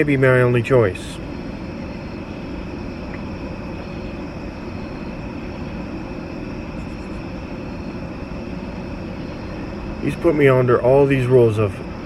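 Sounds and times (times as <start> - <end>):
faint high-pitched hums: 0.0 - 12.0.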